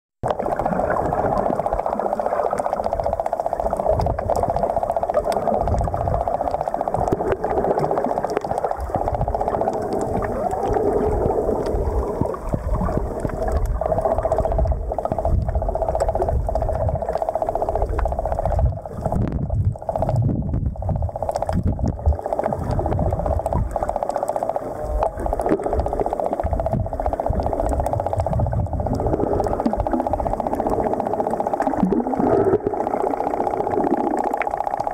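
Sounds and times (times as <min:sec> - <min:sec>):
low rumbles of moving water: 0:00.2 - 0:34.9
muffled underwater droning hum: 0:00.2 - 0:34.9.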